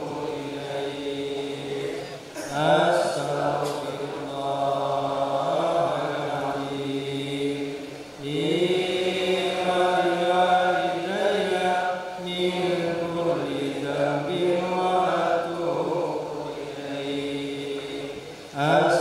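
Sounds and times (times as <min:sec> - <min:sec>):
men chanting: 0:00.0 - 0:19.0.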